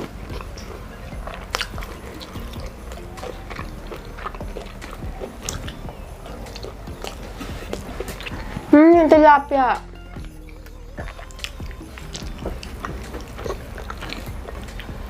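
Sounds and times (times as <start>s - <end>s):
wet mouth clicks and smacks: 0.0s - 8.7s, 9.8s - 15.0s
chewing food: 0.0s - 15.0s.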